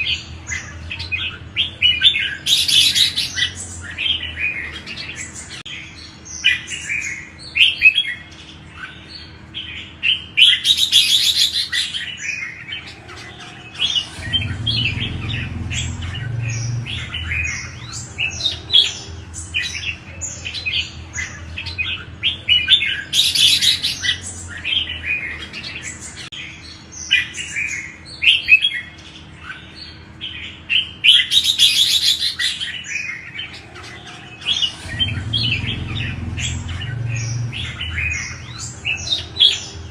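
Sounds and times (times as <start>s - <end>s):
bird song with whistled phrases: 0.0s - 39.9s.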